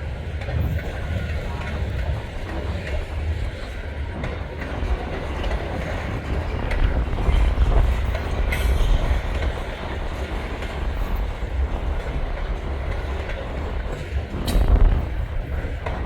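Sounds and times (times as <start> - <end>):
train wheels clacking on rails: 0.0 - 16.0
wind buffeting microphone: 0.0 - 16.0.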